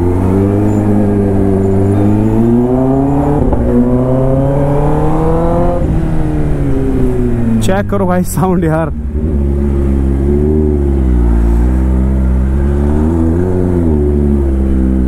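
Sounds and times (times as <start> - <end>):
motorcycle engine revving: 0.0 - 7.7, 8.9 - 15.0.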